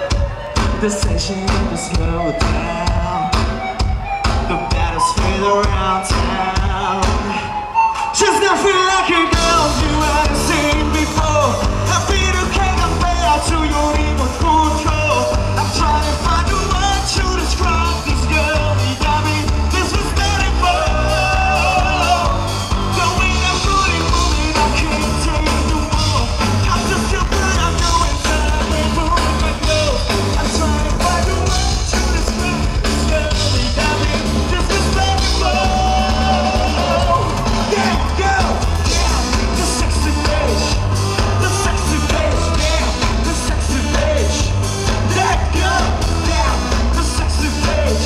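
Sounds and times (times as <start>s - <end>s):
man singing into microphone: 0.0s - 3.8s, 4.4s - 48.0s
bass guitar: 8.7s - 48.0s.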